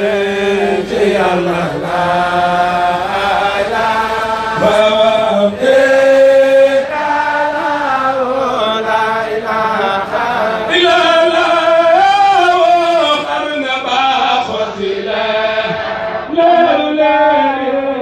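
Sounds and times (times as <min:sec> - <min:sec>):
man chanting: 0:00.0 - 0:03.0, 0:04.4 - 0:06.5, 0:07.8 - 0:15.5, 0:16.3 - 0:18.0.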